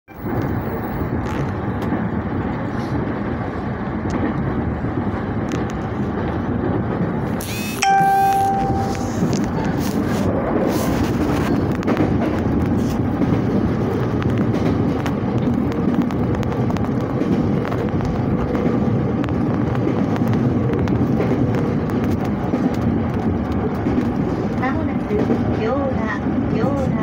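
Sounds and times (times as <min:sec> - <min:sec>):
train wheels rumbling on rails: 0:00.1 - 0:27.0.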